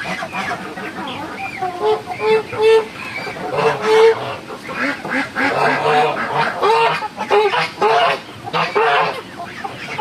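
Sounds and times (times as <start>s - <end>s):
ducks quacking: 0.0s - 10.0s.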